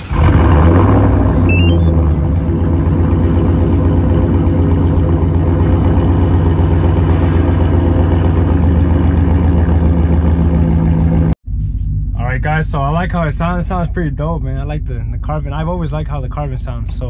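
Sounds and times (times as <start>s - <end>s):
truck engine idling: 1.0s - 17.0s.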